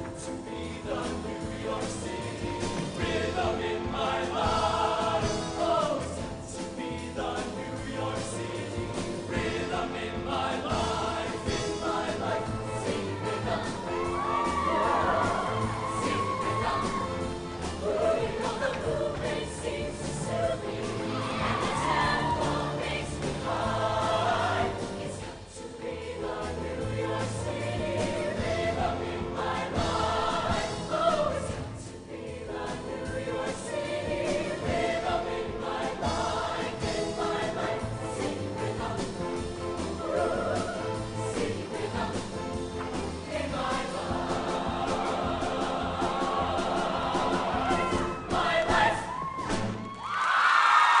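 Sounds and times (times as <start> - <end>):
choir singing: 0.0 - 49.3.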